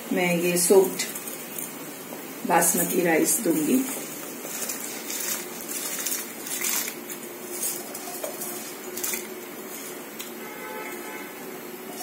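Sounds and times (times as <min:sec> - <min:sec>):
boiling water hissing: 0:00.0 - 0:12.0.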